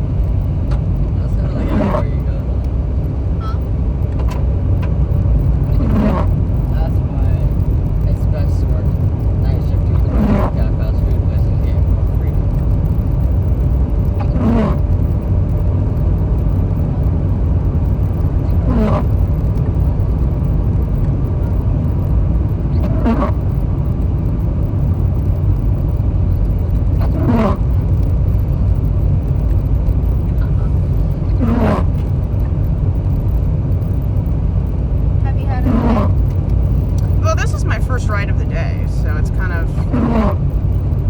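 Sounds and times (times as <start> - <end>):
road and engine rumble: 0.0 - 41.0
windshield wipers sweeping: 0.0 - 41.0.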